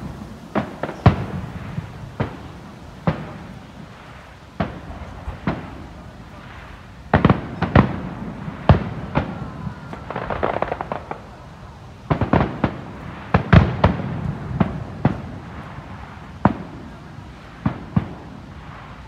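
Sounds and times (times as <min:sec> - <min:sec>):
distant fireworks bangs: 0:00.0 - 0:19.0
firework crackles: 0:00.0 - 0:19.0.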